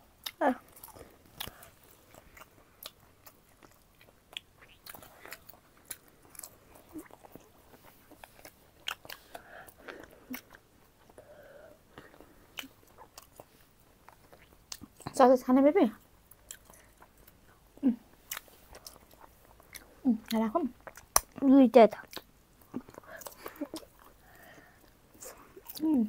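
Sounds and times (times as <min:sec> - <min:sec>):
crunchy eating and chewing: 0:00.0 - 0:15.3, 0:15.9 - 0:26.0.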